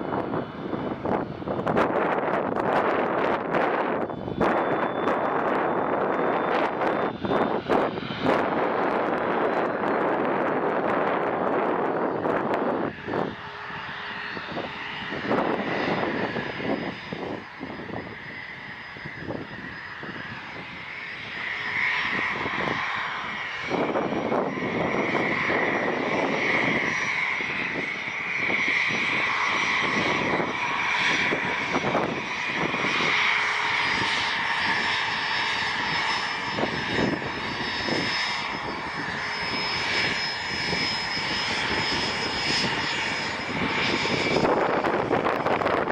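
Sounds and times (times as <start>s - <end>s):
airplane engines whining: 0.0s - 45.9s.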